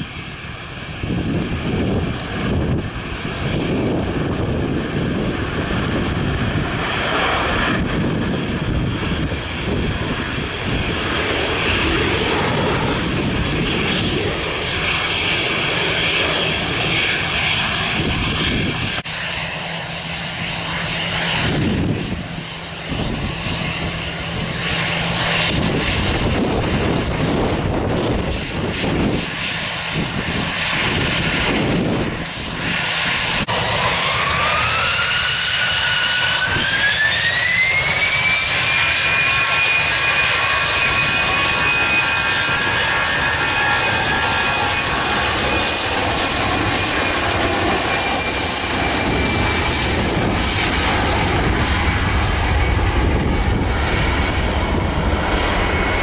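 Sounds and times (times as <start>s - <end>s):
jet engine whine: 0.0s - 56.0s.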